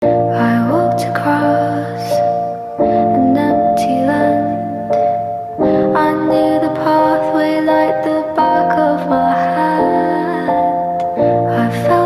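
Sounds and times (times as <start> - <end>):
gentle sustained chords: 0.0 - 12.0.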